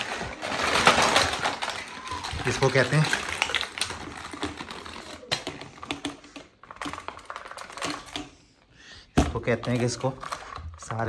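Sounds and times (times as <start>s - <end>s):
plastic toys clattering onto carpet: 0.0s - 8.4s, 9.2s - 11.0s.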